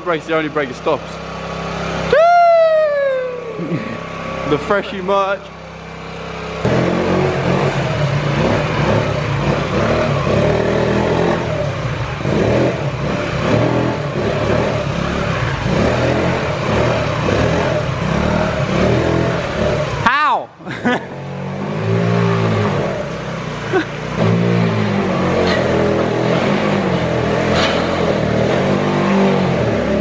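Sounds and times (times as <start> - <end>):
moped engine revving: 0.0 - 30.0.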